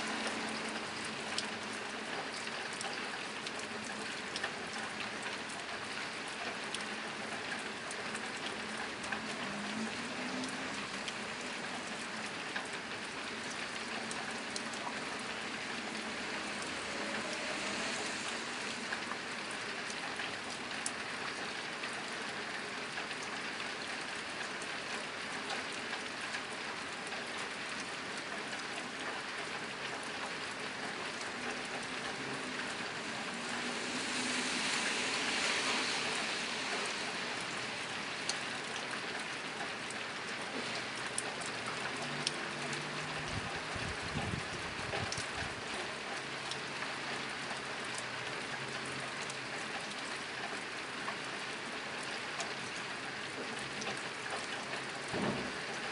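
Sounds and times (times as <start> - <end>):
rain on a tin roof: 0.0 - 55.9.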